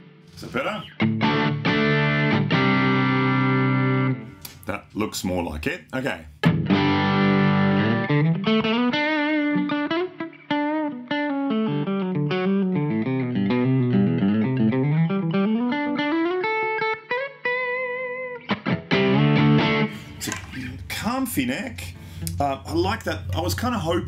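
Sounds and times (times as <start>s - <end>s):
electric guitar through an amp: 0.0s - 4.6s, 6.4s - 24.0s.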